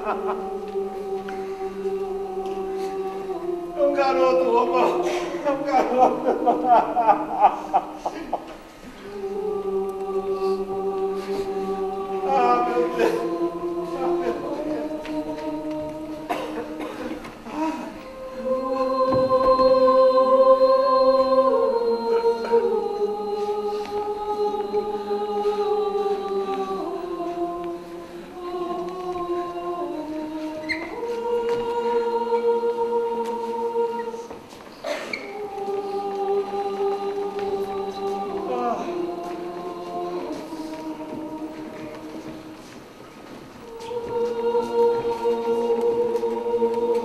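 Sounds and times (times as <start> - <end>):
choir singing sustained chords: 0.0 - 47.0.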